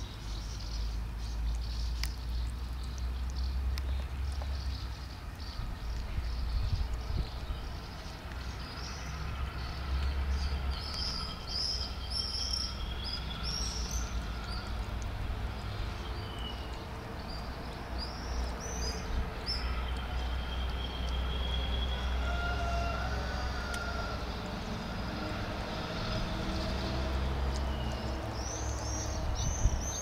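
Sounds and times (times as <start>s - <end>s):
small birds chirping: 0.0s - 22.2s, 23.7s - 30.0s.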